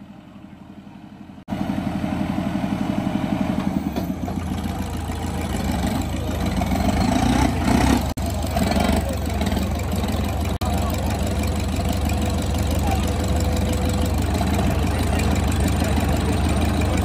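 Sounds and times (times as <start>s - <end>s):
diesel engine clattering: 0.0s - 17.0s.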